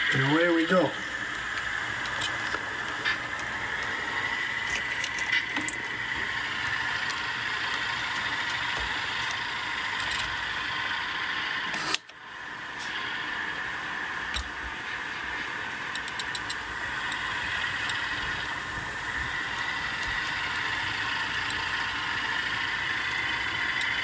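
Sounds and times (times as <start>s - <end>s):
model train mechanical hum: 0.0s - 24.0s.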